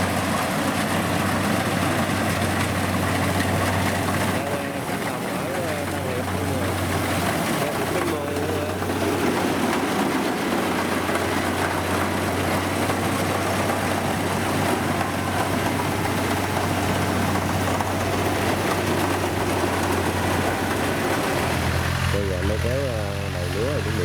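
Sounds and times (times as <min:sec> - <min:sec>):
harvester engine running: 0:00.0 - 0:24.0.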